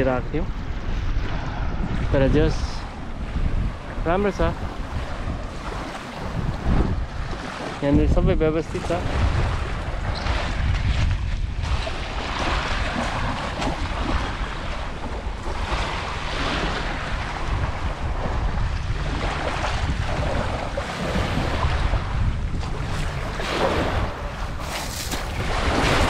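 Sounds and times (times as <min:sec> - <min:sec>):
wind rumbling on microphone: 0:00.0 - 0:26.0
sea waves washing onto shore: 0:01.2 - 0:26.0.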